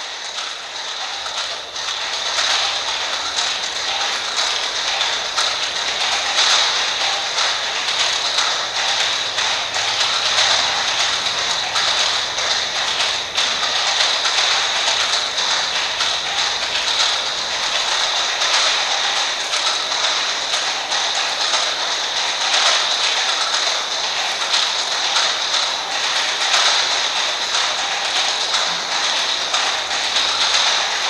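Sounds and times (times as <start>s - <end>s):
clock mechanisms ticking: 0.0s - 31.0s.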